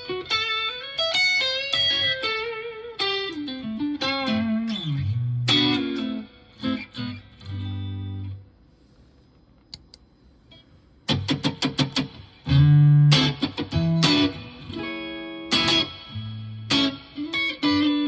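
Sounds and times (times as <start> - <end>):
electric guitar notes: 0.0 - 8.4, 11.1 - 18.0.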